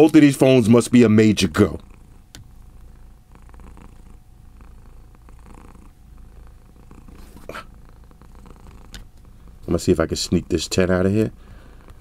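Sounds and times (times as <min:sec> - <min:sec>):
cat purring: 0:00.4 - 0:12.0.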